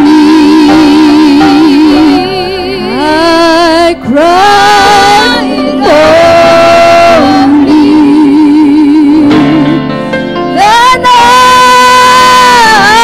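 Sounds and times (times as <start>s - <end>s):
women singing into microphones: 0.0s - 9.9s, 10.6s - 13.0s.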